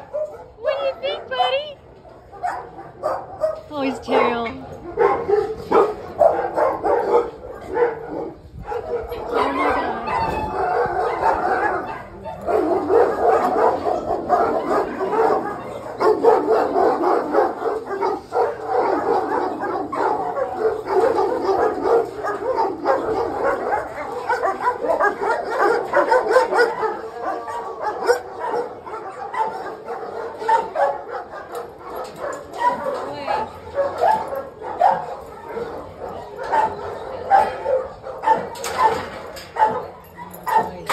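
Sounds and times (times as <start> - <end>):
many dogs barking: 0.0 - 40.9.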